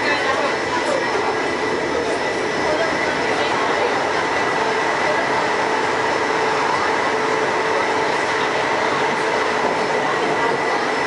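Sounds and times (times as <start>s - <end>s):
constant train whine: 0.0s - 11.0s
metro train rolling noise: 0.0s - 11.0s.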